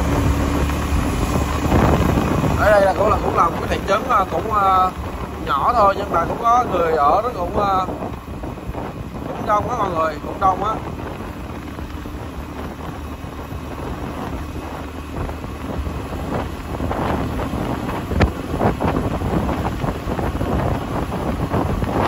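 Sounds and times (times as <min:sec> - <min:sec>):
motor scooter running: 0:00.0 - 0:22.0
wind buffeting microphone: 0:00.0 - 0:22.0.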